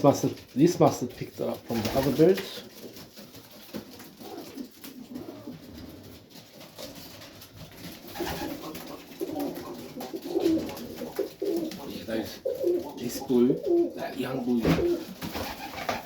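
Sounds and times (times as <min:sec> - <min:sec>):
pigeons cooing: 0:01.4 - 0:16.0.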